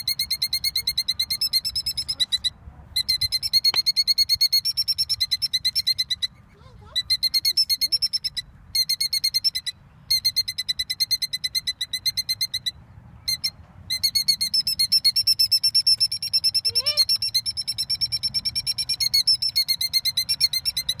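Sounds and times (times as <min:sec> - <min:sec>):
bird shrill alarm notes: 0:00.0 - 0:21.0.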